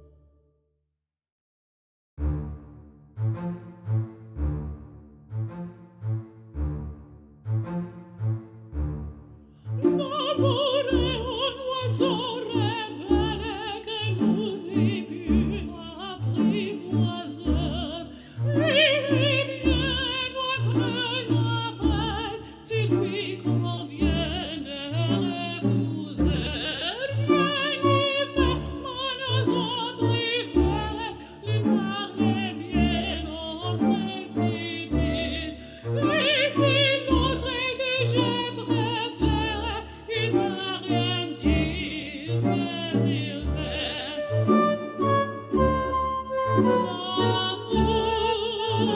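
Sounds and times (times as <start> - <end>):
operatic singing with orchestra: 9.6 - 48.9.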